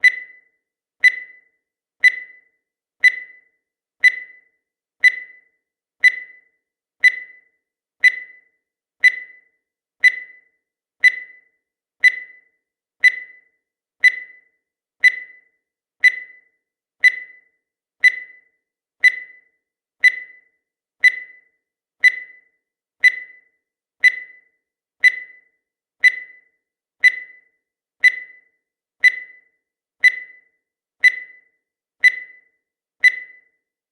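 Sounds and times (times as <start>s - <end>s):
timer beeps: 0.0s - 33.9s.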